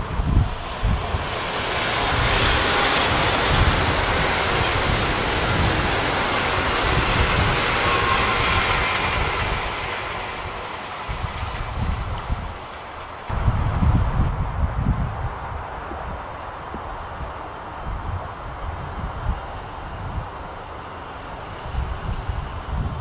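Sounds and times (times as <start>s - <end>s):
high-speed train passing: 0.0s - 23.0s
wind buffeting microphone: 0.0s - 23.0s.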